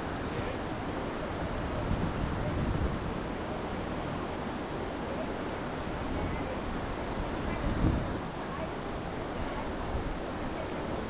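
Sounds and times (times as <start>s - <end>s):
whitewater river rushing: 0.0s - 11.0s.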